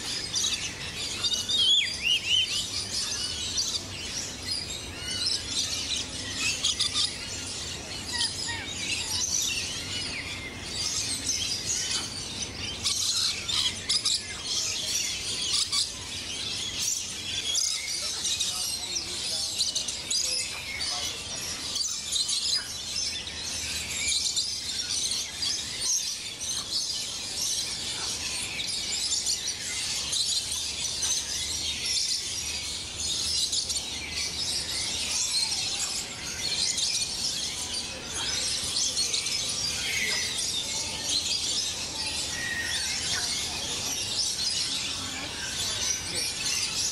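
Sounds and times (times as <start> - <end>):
birds chirping and calling: 0.0 - 46.9.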